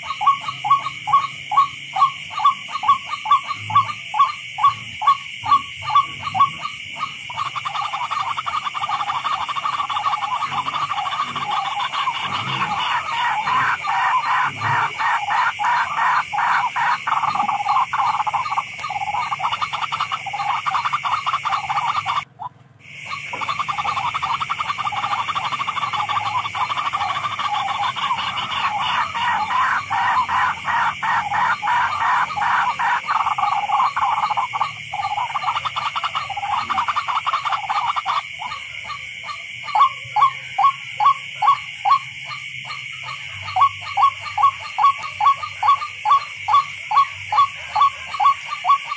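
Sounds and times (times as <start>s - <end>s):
rail bird calling pulsed notes: 0.0s - 22.3s, 22.9s - 48.9s.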